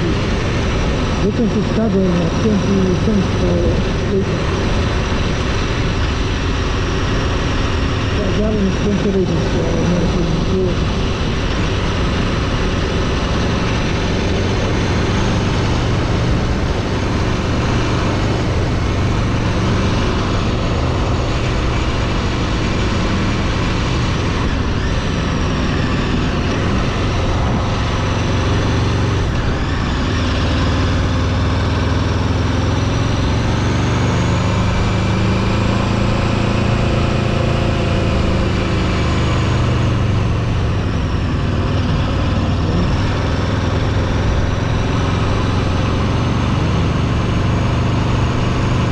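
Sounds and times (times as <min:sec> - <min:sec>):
road and wind noise: 0:00.0 - 0:48.9
vehicle engine running: 0:00.0 - 0:48.9.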